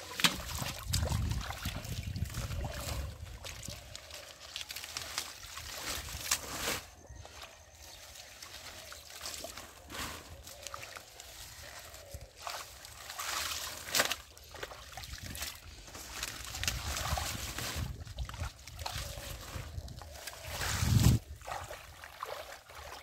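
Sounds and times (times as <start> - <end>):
muddy water sloshing and splashing: 0.0 - 23.0.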